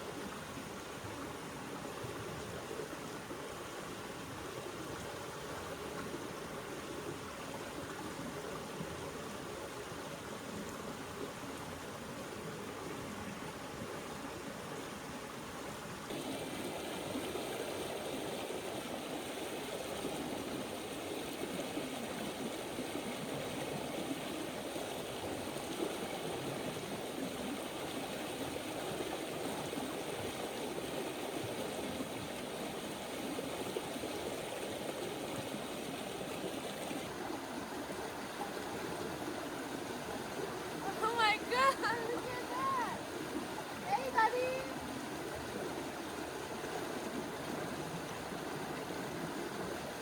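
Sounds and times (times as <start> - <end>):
river rushing water: 0.0 - 50.0.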